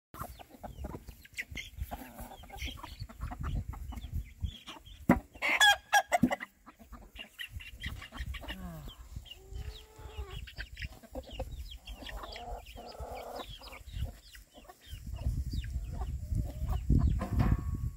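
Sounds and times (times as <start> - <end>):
chickens clucking and chirping: 0.2 - 17.9.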